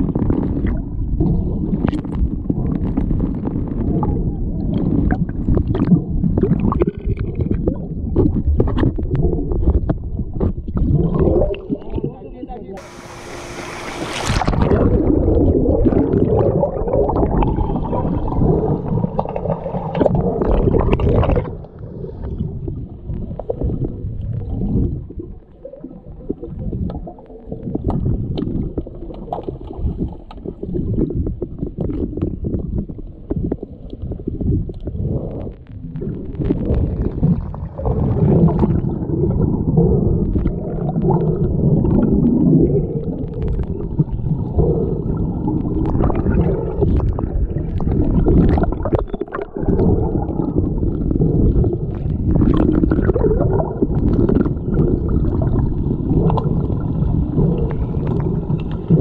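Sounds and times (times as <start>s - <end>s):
muffled underwater churning: 0.0s - 59.0s.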